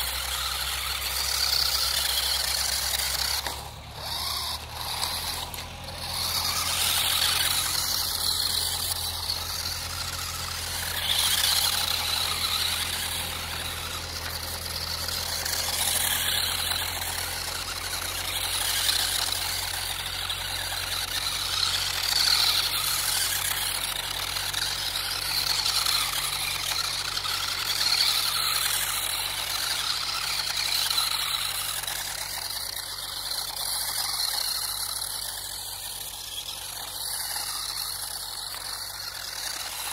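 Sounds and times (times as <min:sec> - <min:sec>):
small electric motor whining: 0:00.0 - 0:39.9.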